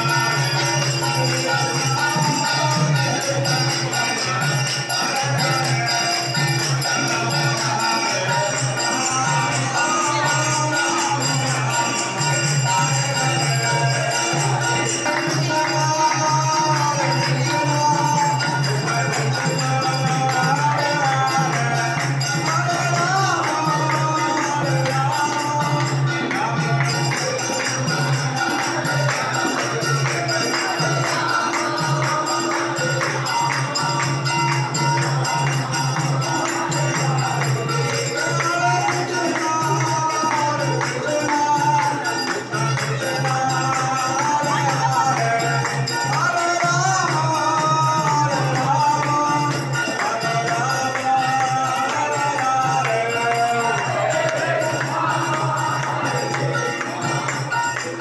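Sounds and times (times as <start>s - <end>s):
drum beating steady pulse: 0.0s - 58.0s
jingling percussion: 0.0s - 58.0s
voices chanting a melody: 0.0s - 58.0s.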